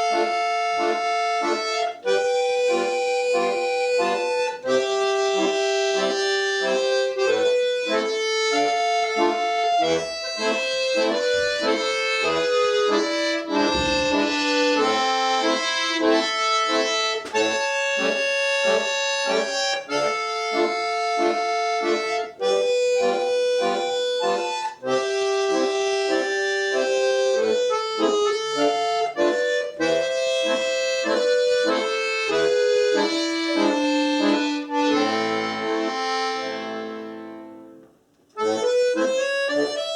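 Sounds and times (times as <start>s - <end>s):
accordion folk melody: 0.0s - 39.9s.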